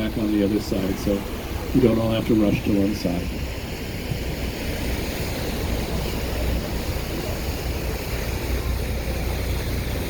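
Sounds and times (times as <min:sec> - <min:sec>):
boat engine rumble: 0:00.0 - 0:10.0
water rushing past hull: 0:00.0 - 0:10.0
wind buffeting microphone: 0:00.0 - 0:10.0.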